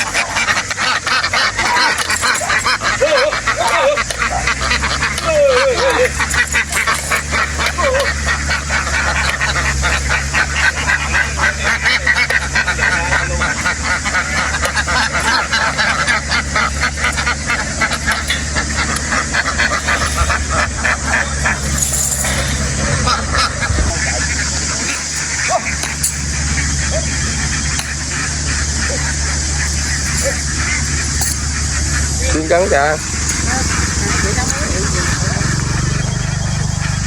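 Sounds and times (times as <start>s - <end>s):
ducks quacking: 0.0s - 37.0s
low engine hum: 0.0s - 37.0s.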